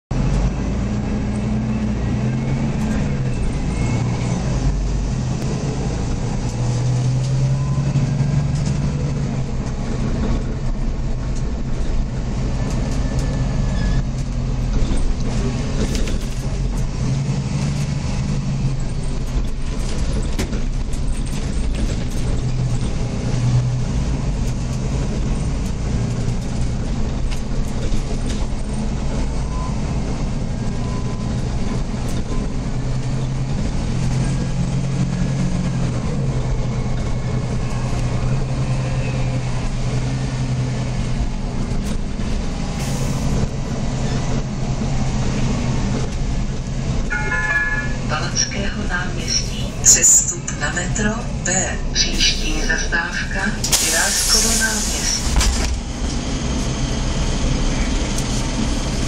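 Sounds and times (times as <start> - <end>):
bus engine rumbling: 0.1 - 59.0.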